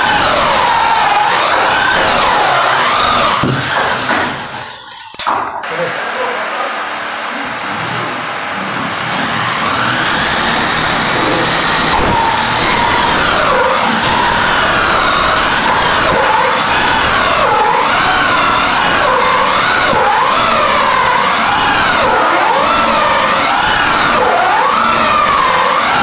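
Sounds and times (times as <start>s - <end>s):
electric drill motor whining: 0.0s - 26.0s.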